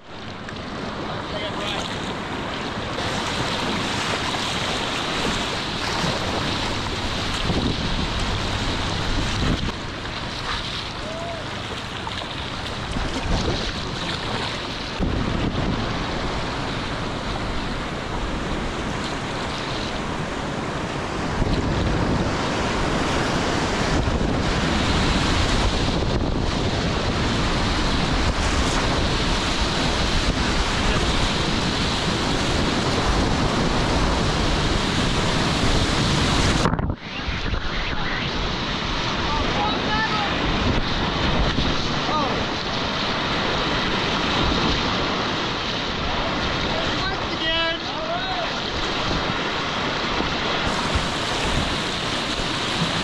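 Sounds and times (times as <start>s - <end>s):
wind buffeting microphone: 0.0s - 53.0s
whitewater rapids rushing: 0.2s - 21.6s, 22.2s - 53.0s.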